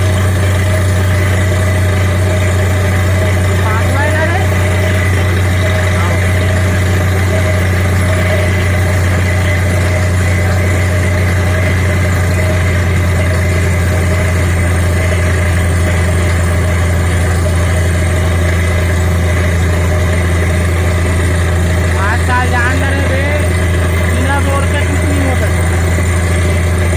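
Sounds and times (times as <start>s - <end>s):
drilling rig engine droning: 0.0s - 26.9s.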